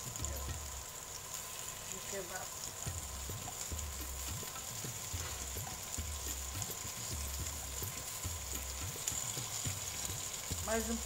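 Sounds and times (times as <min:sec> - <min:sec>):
kebabs sizzling in pan: 0:00.0 - 0:11.0.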